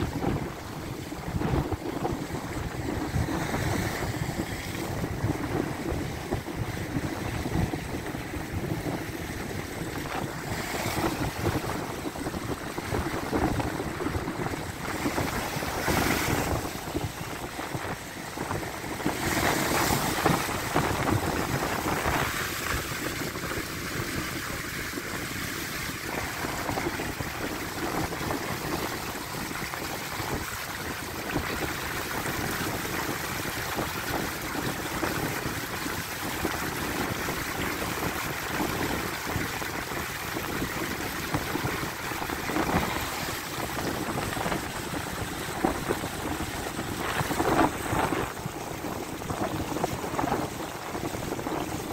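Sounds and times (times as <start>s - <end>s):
waves breaking on concrete: 0.0s - 51.9s.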